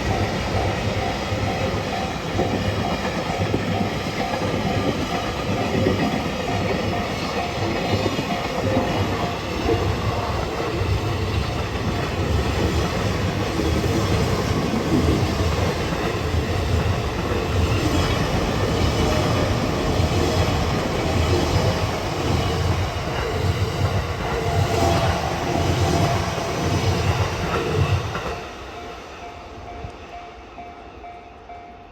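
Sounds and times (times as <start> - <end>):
train wheels clattering on rails: 0.0 - 30.4
heavy train rumble: 0.0 - 31.9.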